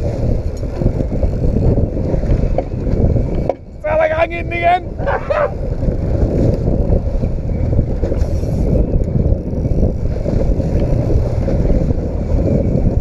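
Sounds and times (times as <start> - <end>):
outboard motor running: 0.0 - 13.0
wind buffeting microphone: 0.0 - 13.0.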